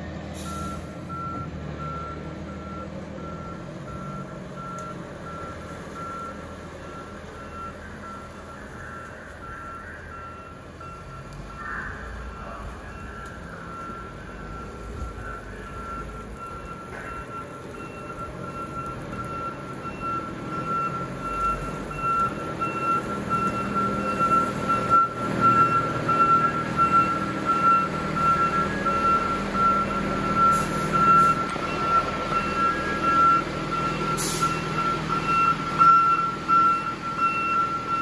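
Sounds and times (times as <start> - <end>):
diesel engine running: 0.0 - 38.0
backup alarm beeping: 0.5 - 38.0.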